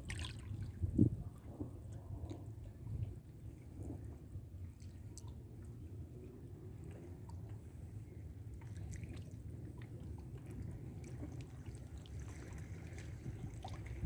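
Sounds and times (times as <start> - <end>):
sea water lapping and gurgling: 0.0 - 14.0
wind rumble on microphone: 0.0 - 14.0.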